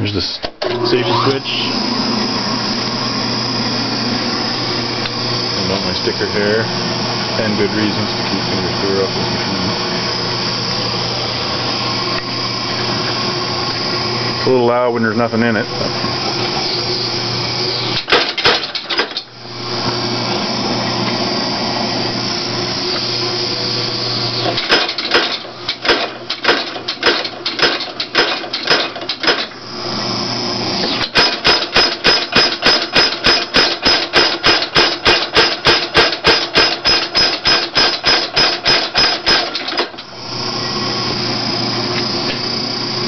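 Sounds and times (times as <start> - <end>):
power hammer motor hum: 0.6 - 43.0.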